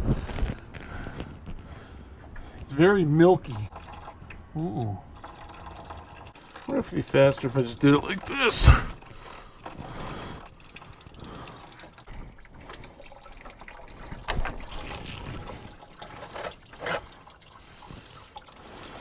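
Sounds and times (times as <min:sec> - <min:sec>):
coolant trickling into a pan: 0:03.2 - 0:19.0.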